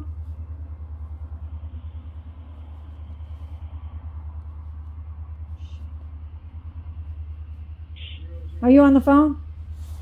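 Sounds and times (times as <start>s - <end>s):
pulsing low rumble: 0.0s - 10.0s.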